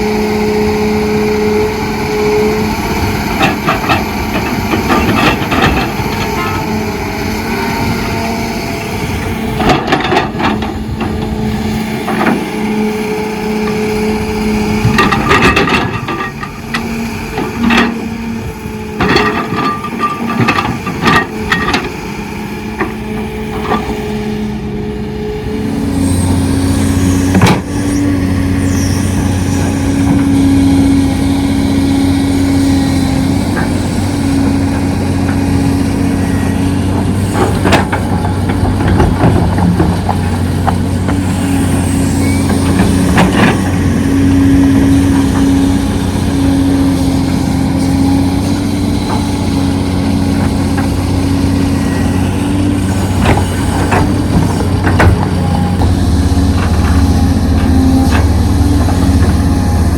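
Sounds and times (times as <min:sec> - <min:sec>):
diesel construction machine engine: 0:00.0 - 0:59.9.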